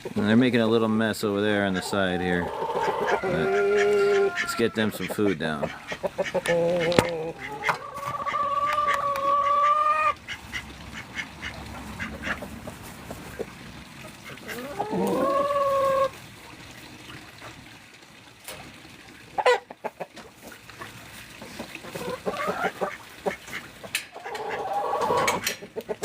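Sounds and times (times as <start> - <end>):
chickens clucking and calling: 1.3 - 16.2, 19.2 - 26.0.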